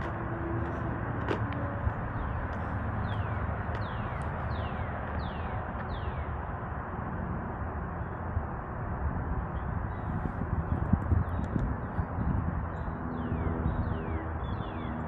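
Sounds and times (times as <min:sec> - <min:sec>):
low outdoor rumble: 0:00.0 - 0:14.2.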